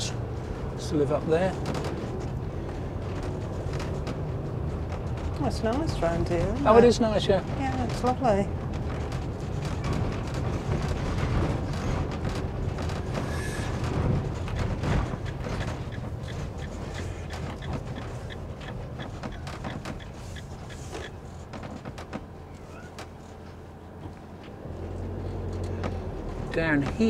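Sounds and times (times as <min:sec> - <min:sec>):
engine and road rumble: 0:00.0 - 0:27.0.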